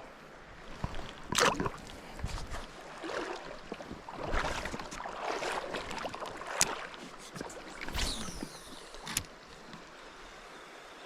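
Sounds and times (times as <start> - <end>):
water splashing and sloshing: 0.4 - 10.3.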